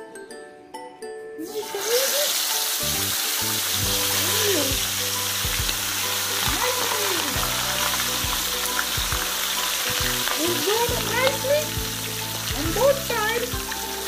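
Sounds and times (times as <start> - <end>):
oil sizzling in a frying pan: 1.4 - 14.0.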